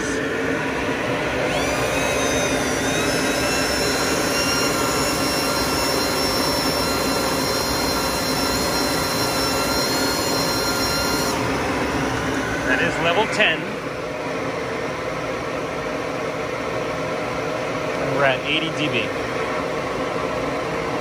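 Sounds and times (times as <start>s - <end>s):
duct fan whining and rushing: 0.0s - 21.0s.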